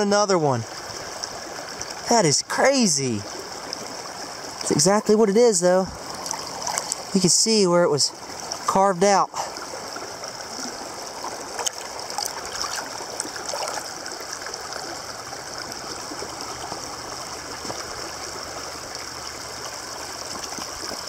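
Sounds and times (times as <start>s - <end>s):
creek water running over rock: 0.0s - 21.0s.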